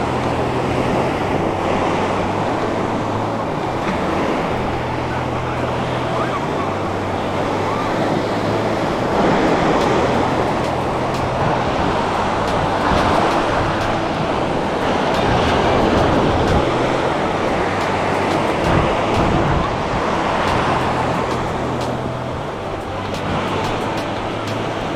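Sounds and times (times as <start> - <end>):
water rushing: 0.0 - 24.9.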